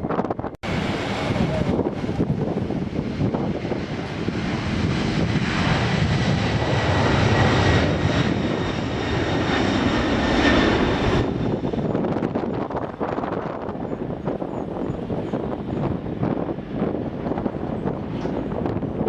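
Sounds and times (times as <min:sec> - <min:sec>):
jet engines on takeoff: 0:00.1 - 0:19.0.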